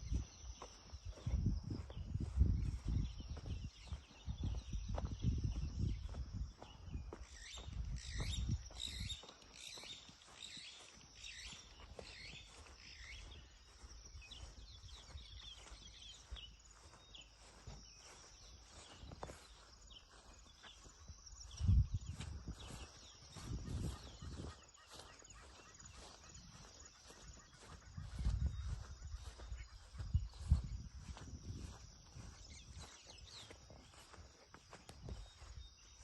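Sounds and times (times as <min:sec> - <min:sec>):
wind rumble on microphone: 0:00.0 - 0:09.3, 0:12.0 - 0:36.0
birds chirping: 0:00.0 - 0:36.0.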